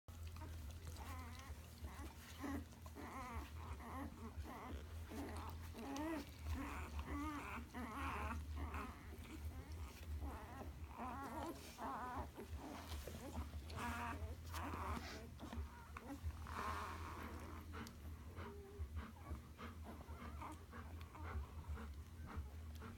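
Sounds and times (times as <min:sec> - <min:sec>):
puppies squeaking and whimpering: 0:00.1 - 0:22.9.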